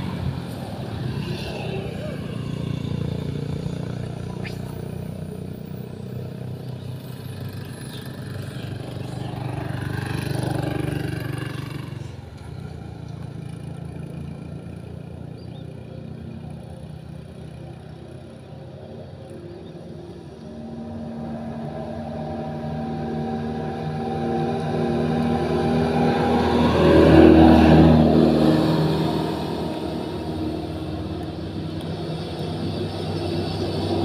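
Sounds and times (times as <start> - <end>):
vehicle engine passing by: 0.0 - 14.9, 16.4 - 34.0.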